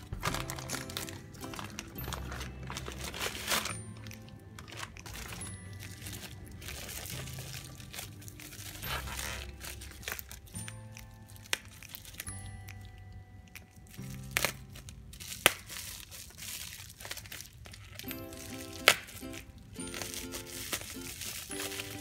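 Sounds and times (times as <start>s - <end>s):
background music: 0.0s - 16.7s, 17.9s - 22.0s
plastic bag and bubble wrap crinkling: 0.0s - 22.0s.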